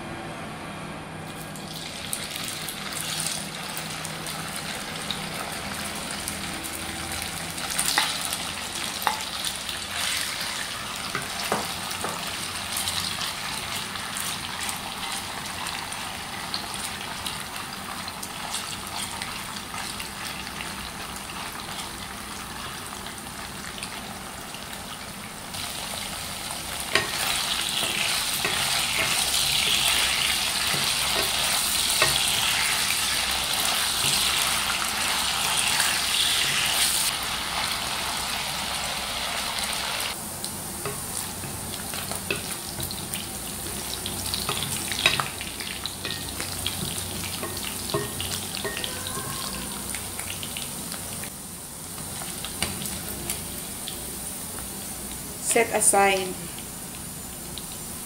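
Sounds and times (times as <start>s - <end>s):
meat sizzling in hot oil: 1.4s - 58.0s.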